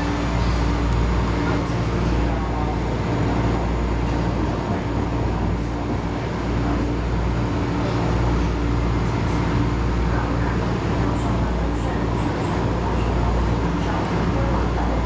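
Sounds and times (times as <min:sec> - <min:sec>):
train motor hum: 0:00.0 - 0:15.0.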